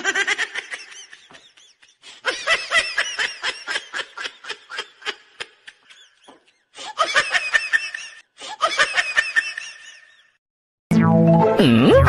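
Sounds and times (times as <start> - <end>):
person giggling: 0.0 - 10.1.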